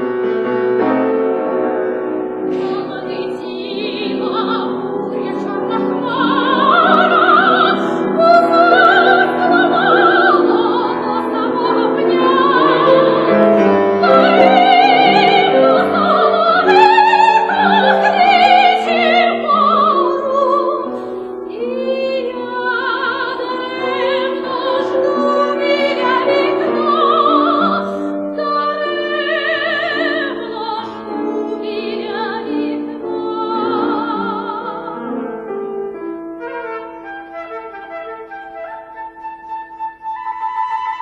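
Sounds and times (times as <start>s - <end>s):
piano accompaniment: 0.0s - 41.0s
operatic soprano singing: 2.5s - 35.4s.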